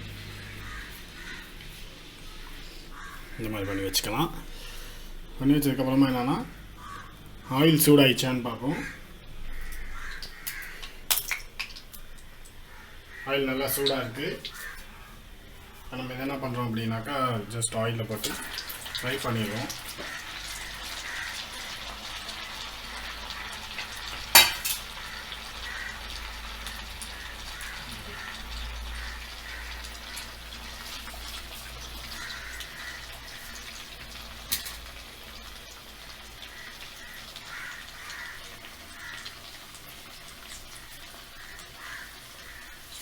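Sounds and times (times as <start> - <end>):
food deep-frying in hot oil: 0.0 - 43.0.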